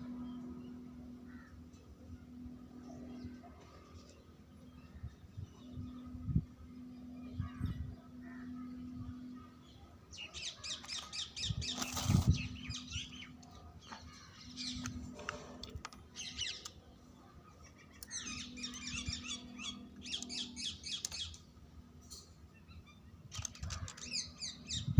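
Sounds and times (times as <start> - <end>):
birds chirping: 0.0 - 24.9
faint low hum: 0.0 - 24.9.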